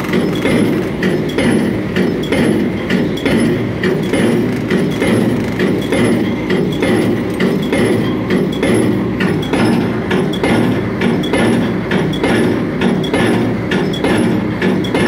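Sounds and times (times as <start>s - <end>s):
pile driver hammer striking: 0.0s - 15.0s.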